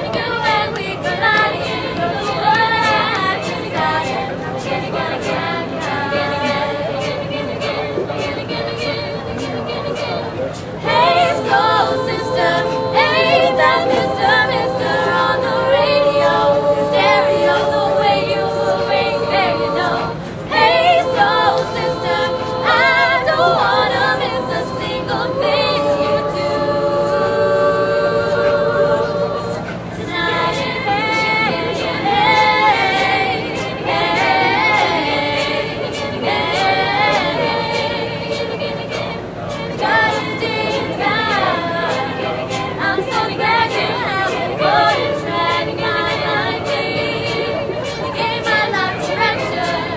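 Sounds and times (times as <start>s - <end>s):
a cappella group singing: 0.0s - 49.9s.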